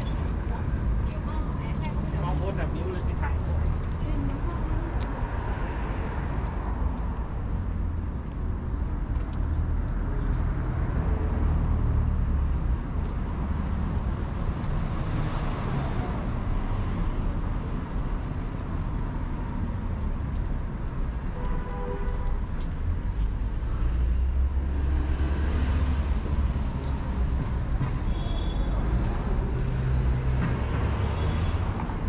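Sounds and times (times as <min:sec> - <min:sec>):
low rumble of traffic: 0:00.0 - 0:32.0.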